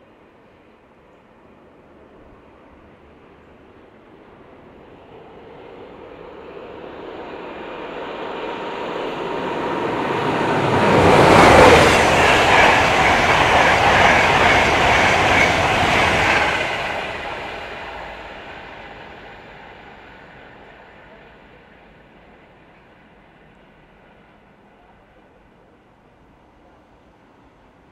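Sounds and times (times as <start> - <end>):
train passing at speed: 0.0 - 27.9.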